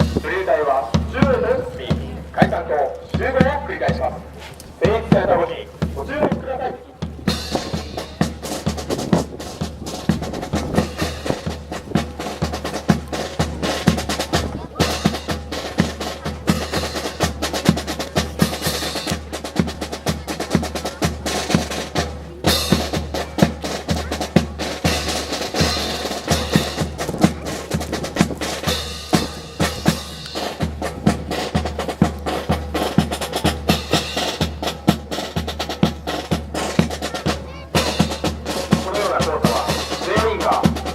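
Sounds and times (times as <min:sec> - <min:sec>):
brass band playing march: 0:00.0 - 0:40.9
snare and bass drums: 0:00.0 - 0:40.9.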